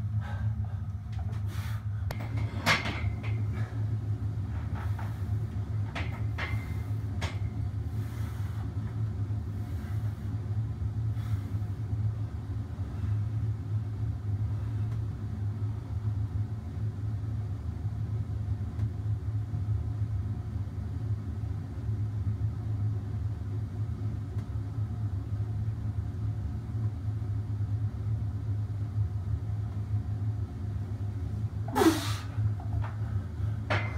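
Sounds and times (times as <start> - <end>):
low machine hum: 0.0 - 33.9.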